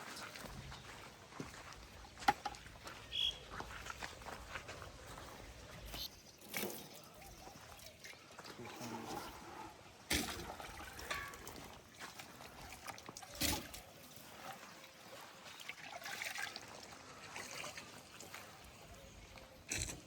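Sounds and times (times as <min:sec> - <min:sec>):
water trickling and pouring: 0:00.0 - 0:20.0.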